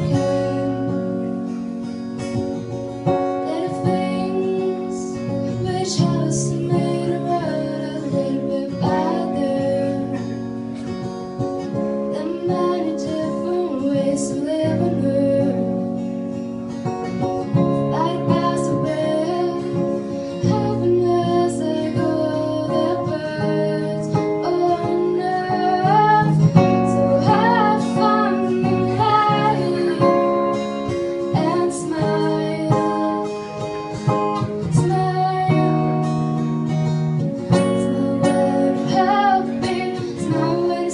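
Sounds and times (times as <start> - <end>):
woman singing: 0.0 - 2.2, 3.0 - 16.3, 17.4 - 40.9
acoustic guitar: 0.0 - 40.9.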